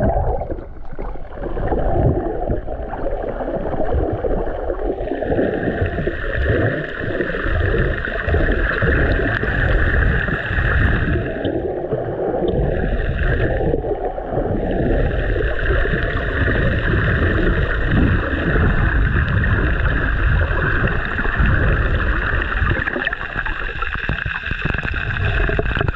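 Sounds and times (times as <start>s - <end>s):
underwater rushing water: 0.0s - 25.9s.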